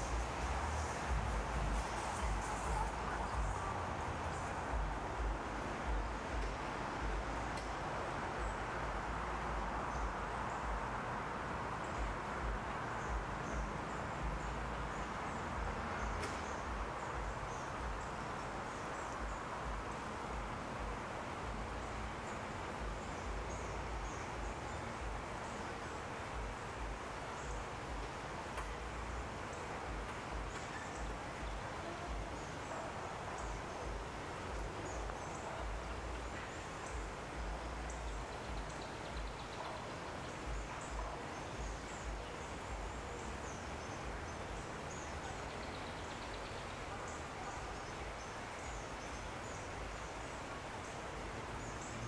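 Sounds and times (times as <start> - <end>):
outdoor background noise: 0.0 - 52.0
steady hiss: 0.0 - 52.0.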